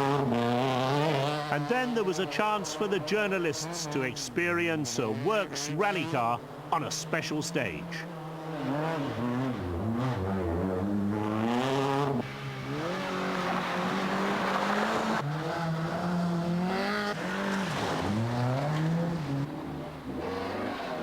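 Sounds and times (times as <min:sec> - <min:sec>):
rally car engine revving: 0:00.0 - 0:07.2, 0:07.9 - 0:21.0.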